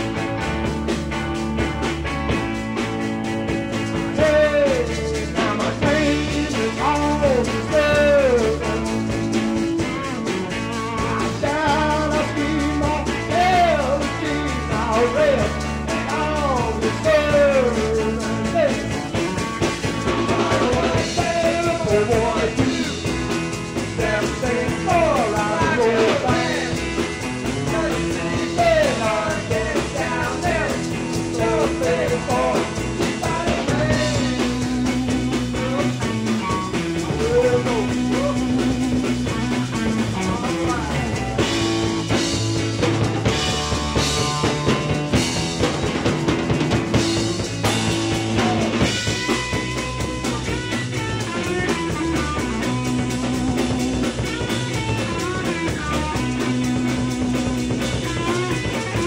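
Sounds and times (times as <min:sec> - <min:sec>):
bass line: 0:00.0 - 0:59.0
drums: 0:00.0 - 0:59.0
electric guitars: 0:00.0 - 0:59.0
person singing: 0:03.8 - 0:41.9, 0:47.9 - 0:59.0.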